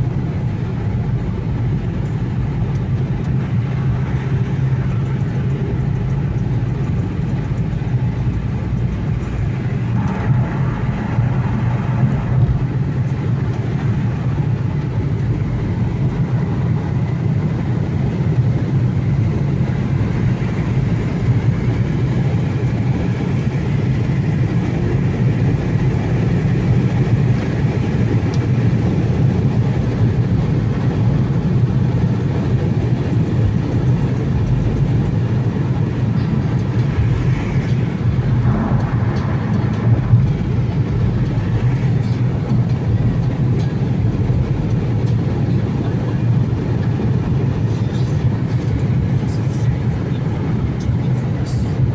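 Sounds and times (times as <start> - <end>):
car engine and road hum: 0.0 - 51.9.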